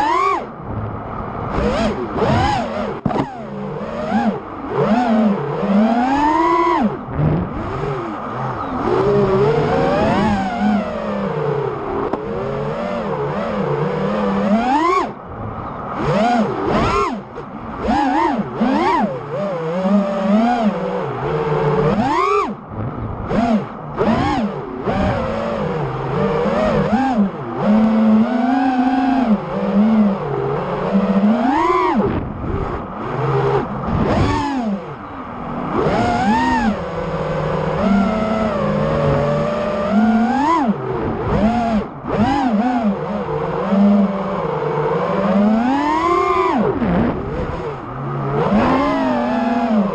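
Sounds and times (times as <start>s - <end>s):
quadcopter motors whining: 0.0s - 49.9s.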